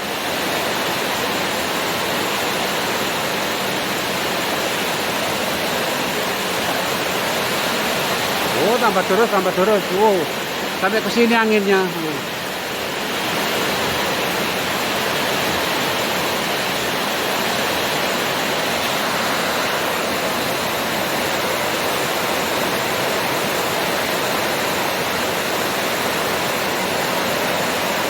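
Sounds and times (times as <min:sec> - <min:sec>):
heavy rain in strong wind: 0:00.0 - 0:28.0.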